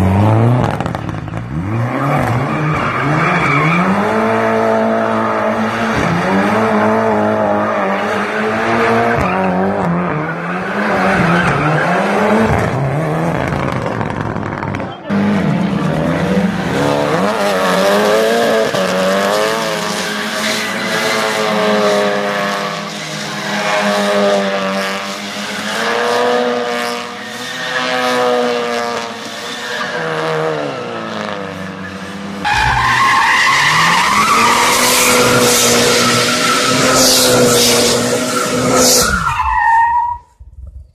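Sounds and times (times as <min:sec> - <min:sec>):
car engine revving: 0:00.0 - 0:39.4
tyres skidding and squealing: 0:00.0 - 0:40.3.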